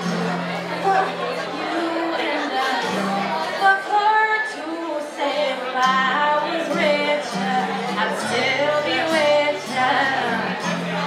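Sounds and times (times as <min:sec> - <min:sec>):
strummed acoustic guitar: 0:00.0 - 0:11.0
women singing: 0:00.8 - 0:11.0.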